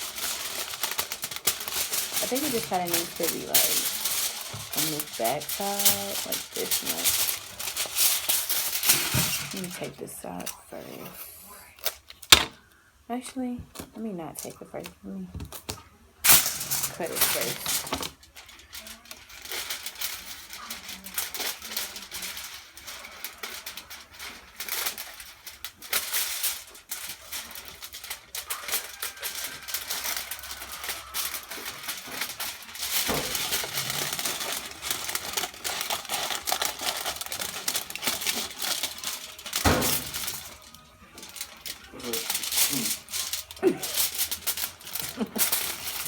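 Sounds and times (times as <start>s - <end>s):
aluminium foil crinkling: 0.0s - 46.0s.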